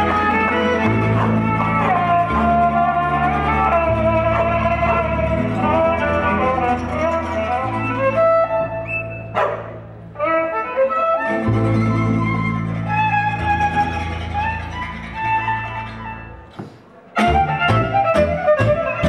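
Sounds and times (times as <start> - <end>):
bowed horn violin melody: 0.0 - 9.4, 10.0 - 16.5
plucked double bass: 0.0 - 10.6, 11.2 - 19.0
acoustic guitar: 0.0 - 19.0.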